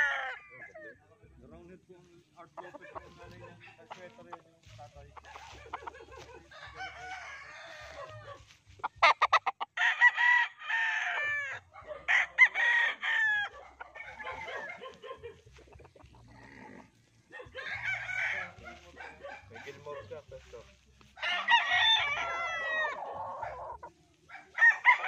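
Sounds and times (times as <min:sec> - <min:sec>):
birds clucking and calling: 0:00.0 - 0:00.9, 0:02.3 - 0:25.0
roosters crowing: 0:00.0 - 0:00.9, 0:05.2 - 0:25.0.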